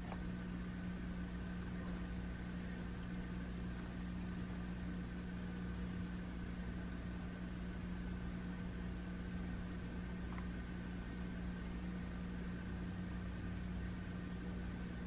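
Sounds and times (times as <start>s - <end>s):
appliance hum with high whine: 0.0s - 15.0s.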